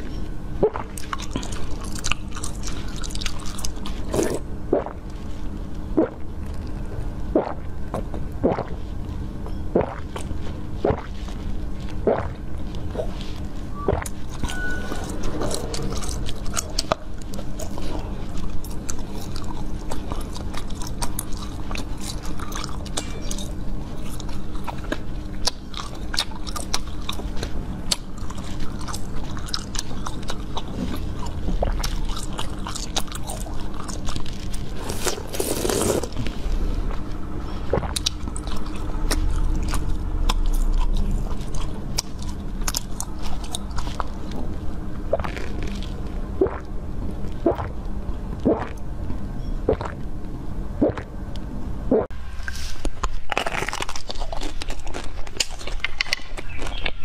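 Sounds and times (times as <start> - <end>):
biting and chewing jelly: 0.0 - 48.9, 49.5 - 50.1, 50.8 - 57.0.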